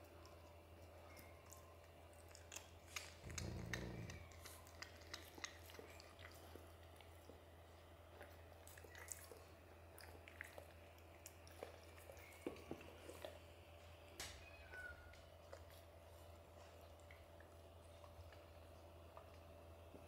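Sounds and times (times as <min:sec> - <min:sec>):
kitten chewing meat: 0:00.0 - 0:20.0
low steady hum: 0:00.0 - 0:20.0.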